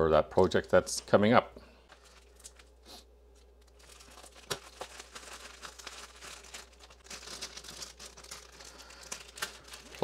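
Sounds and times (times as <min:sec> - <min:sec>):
plastic bag crinkling: 0:01.9 - 0:10.0.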